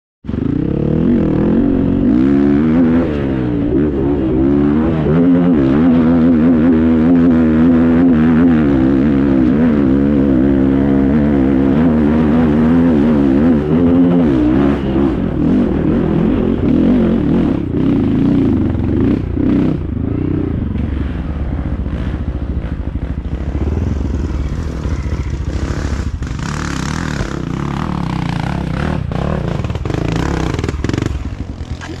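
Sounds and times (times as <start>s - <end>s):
dirt bike engine revving: 0.3s - 32.0s.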